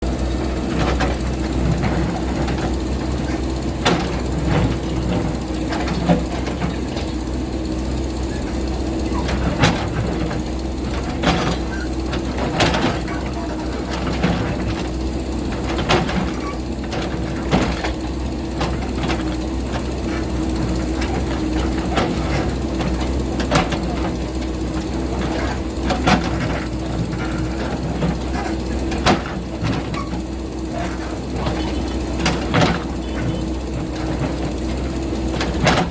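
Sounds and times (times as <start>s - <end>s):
diesel engine running under load: 0.0s - 35.9s.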